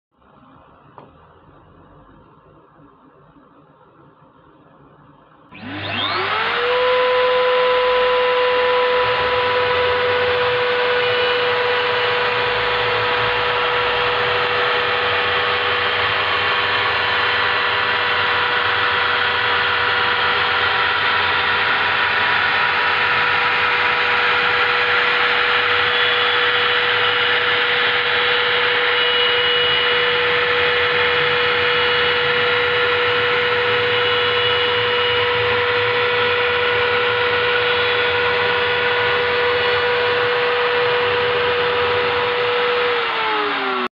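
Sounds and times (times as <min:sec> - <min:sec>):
router motor spinning up and whining: 0:05.5 - 0:43.9.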